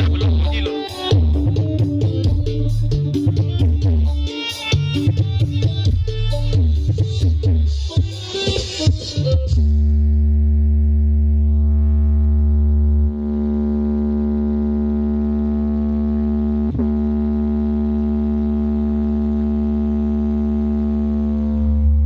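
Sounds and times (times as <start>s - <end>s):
speakers giving low hum: 0.0s - 7.5s, 9.4s - 22.0s.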